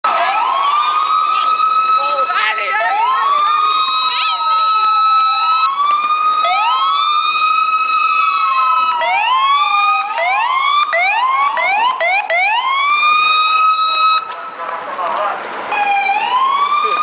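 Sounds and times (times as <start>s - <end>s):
police sirens wailing and yelping: 0.0s - 17.0s
steady siren tone: 0.1s - 14.3s.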